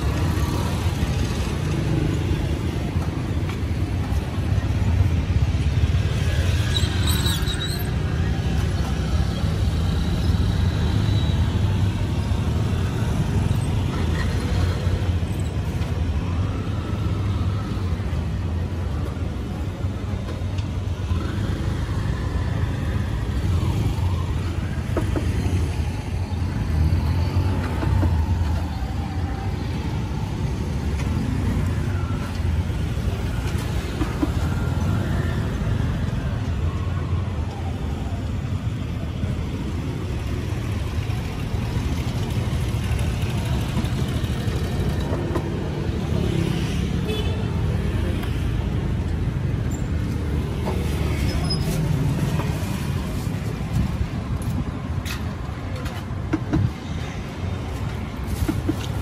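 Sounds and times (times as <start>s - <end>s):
low traffic rumble: 0.0s - 59.0s.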